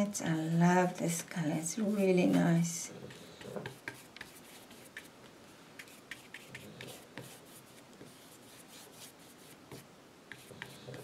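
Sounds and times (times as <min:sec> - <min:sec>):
paintbrush scratching on canvas: 0:00.0 - 0:01.1, 0:01.8 - 0:05.1, 0:05.8 - 0:11.0.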